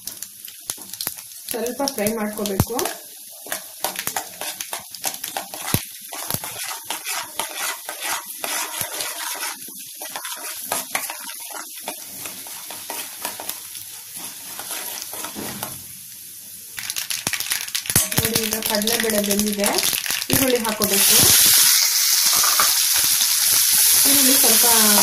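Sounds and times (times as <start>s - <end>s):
seeds crackling and sizzling in oil: 0.0s - 25.0s.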